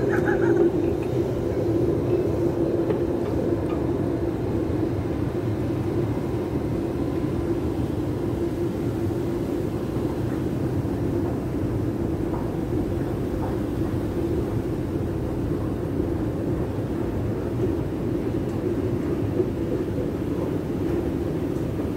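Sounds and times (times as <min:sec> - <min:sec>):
escalator mechanical drone: 0:00.0 - 0:21.9.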